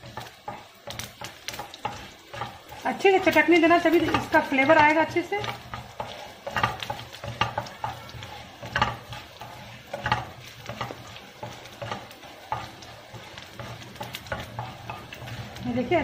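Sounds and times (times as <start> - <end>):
seeds spluttering in hot oil: 0.0 - 16.0
spatula scraping a pan: 0.0 - 16.0.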